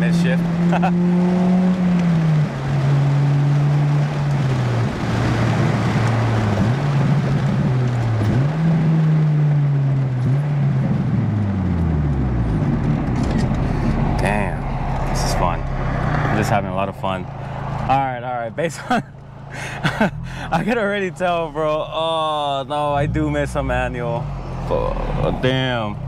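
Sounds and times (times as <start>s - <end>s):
car engine revving through gears: 0.0s - 18.0s, 19.2s - 26.0s.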